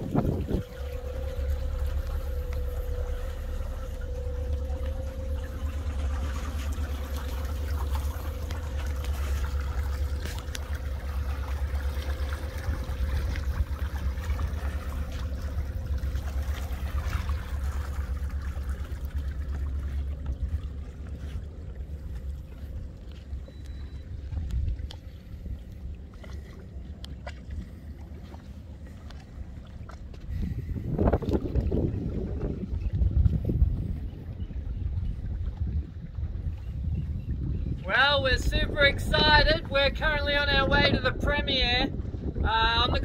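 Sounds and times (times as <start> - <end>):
faint hum: 0.0 - 43.0
low rumble: 0.0 - 43.0
water trickling in boat wake: 0.0 - 43.0.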